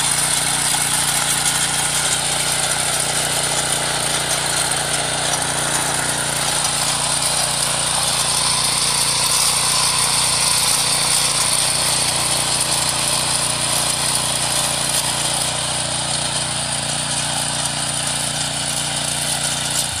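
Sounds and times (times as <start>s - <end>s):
small engine running: 0.0s - 20.0s
tines churning soil: 0.0s - 20.0s.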